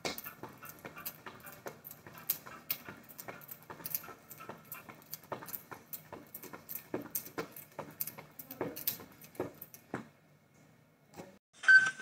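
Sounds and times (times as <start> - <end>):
footsteps on tiled floor: 0.0 - 10.7.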